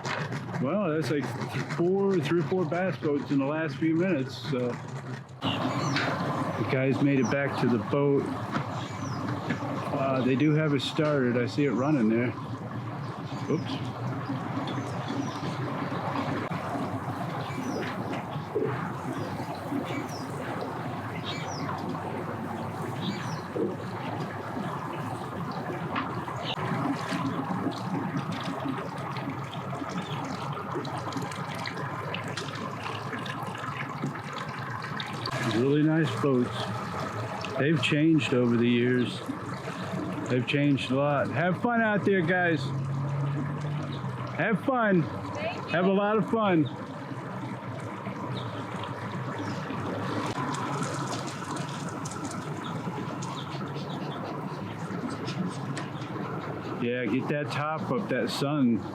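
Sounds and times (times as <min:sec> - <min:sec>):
outboard motor hum: 0:00.0 - 0:58.9
water churning and splashing: 0:00.0 - 0:58.9.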